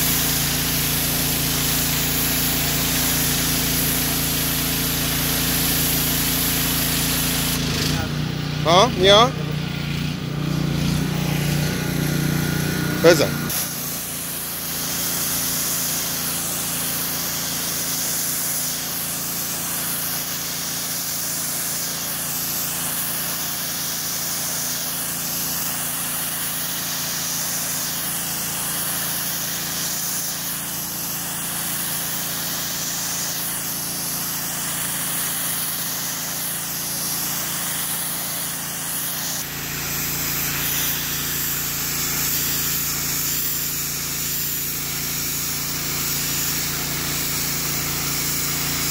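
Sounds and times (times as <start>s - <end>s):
pressure washer machine hum: 0.0s - 48.9s
water jet spraying rug: 0.0s - 48.9s.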